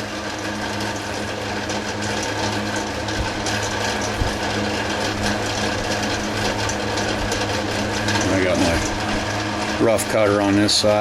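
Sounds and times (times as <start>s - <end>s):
metal lathe running: 0.0s - 11.0s.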